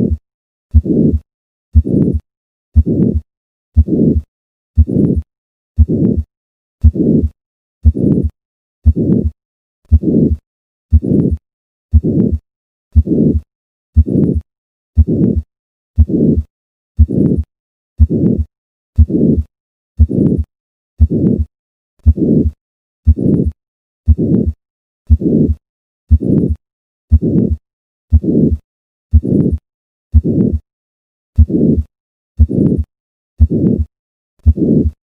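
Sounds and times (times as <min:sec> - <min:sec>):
heartbeats with harsh murmur: 0:00.1 - 0:02.2, 0:02.8 - 0:13.4, 0:14.0 - 0:30.6, 0:31.4 - 0:35.0.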